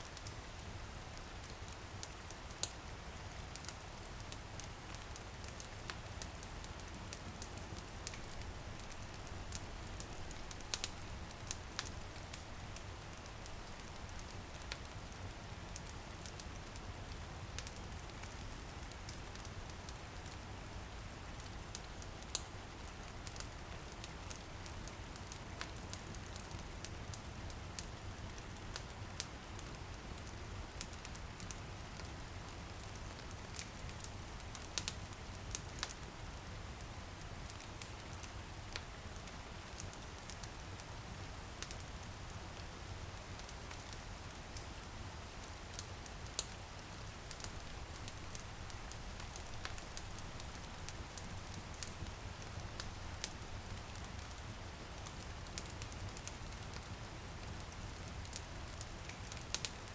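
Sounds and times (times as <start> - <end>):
wood fire crackling and popping: 0.1 - 36.8, 37.4 - 59.9
drizzle pattering on a window: 0.2 - 59.9.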